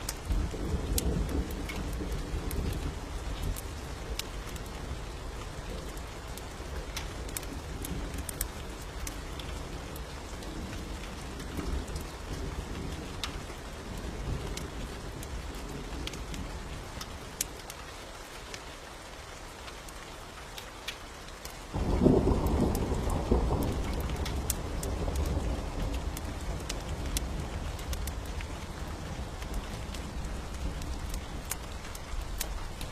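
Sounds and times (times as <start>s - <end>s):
thunder rumbling: 0.0s - 17.3s, 21.7s - 32.9s
steady rain: 0.0s - 32.9s.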